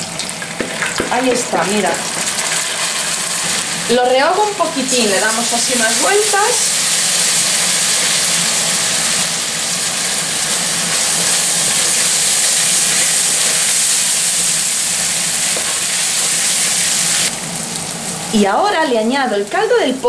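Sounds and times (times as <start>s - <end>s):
rice sizzling in hot oil: 0.0s - 20.0s.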